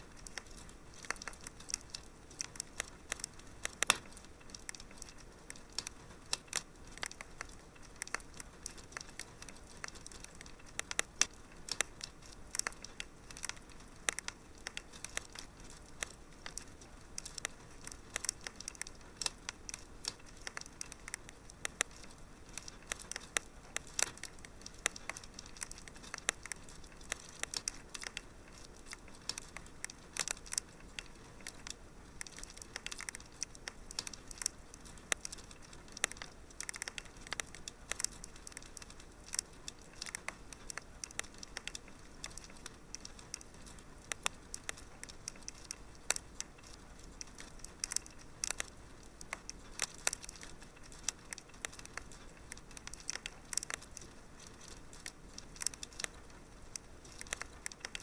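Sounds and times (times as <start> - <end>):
soft steady hiss: 0.0 - 58.0
wood fire crackling and popping: 0.0 - 58.0.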